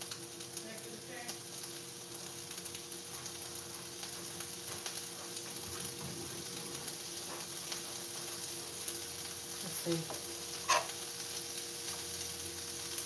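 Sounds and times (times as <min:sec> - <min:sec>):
sausage sizzling in a frying pan: 0:00.0 - 0:13.0.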